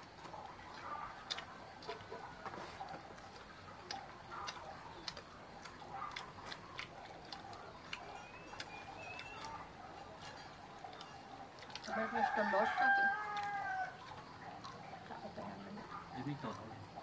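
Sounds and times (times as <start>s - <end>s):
people chewing and eating: 0.0s - 17.0s.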